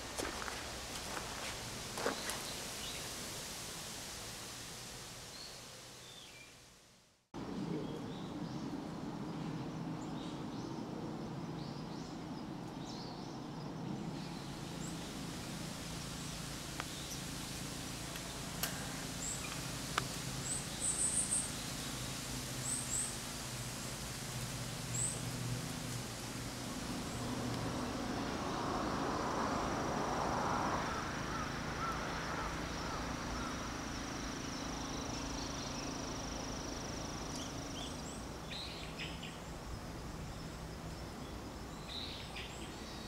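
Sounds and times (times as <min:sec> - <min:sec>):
small birds chirping: 0:00.0 - 0:03.2, 0:07.7 - 0:28.6, 0:30.8 - 0:43.0.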